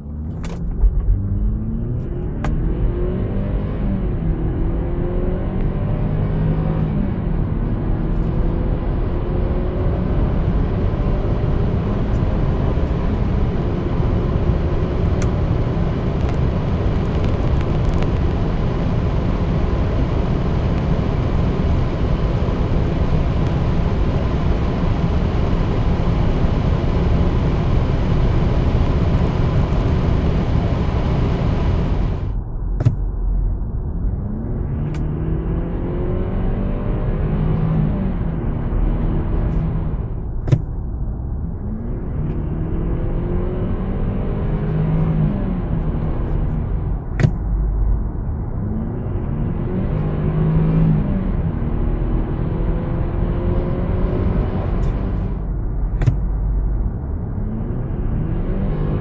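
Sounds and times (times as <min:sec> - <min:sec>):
car engine accelerating hard: 0:00.0 - 0:33.0, 0:33.8 - 0:59.0.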